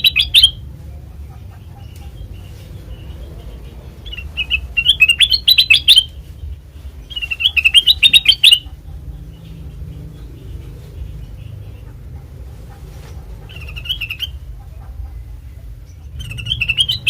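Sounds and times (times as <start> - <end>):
bulbul chirping song: 0.0 - 17.0
low steady rumble: 0.0 - 17.0.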